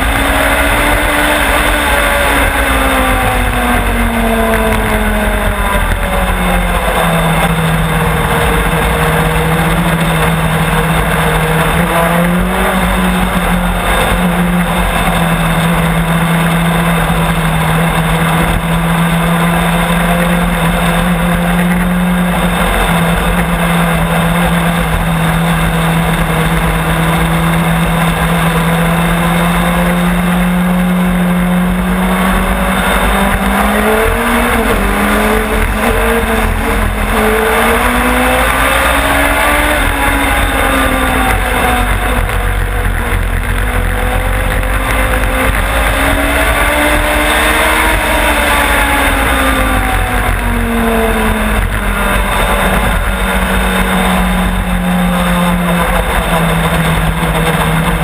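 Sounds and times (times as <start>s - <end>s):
race car engine: 0.0s - 58.0s
wind and road rush: 0.0s - 58.0s.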